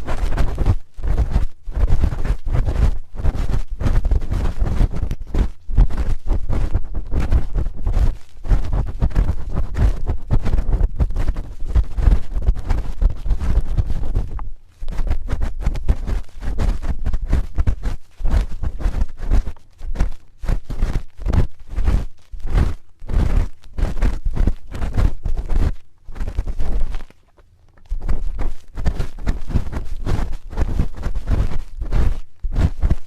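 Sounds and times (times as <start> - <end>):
spoon scraping a microphone: 0.0 - 33.0.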